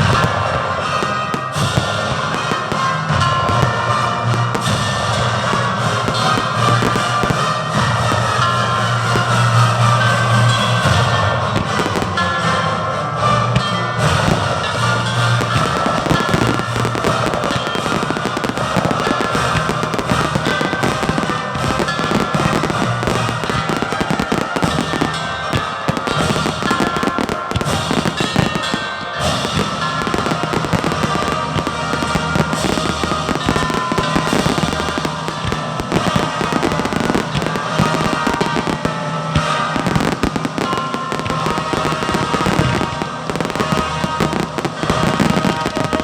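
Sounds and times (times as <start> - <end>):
fireworks bursting and crackling: 0.0 - 46.0
loud music: 0.0 - 46.0.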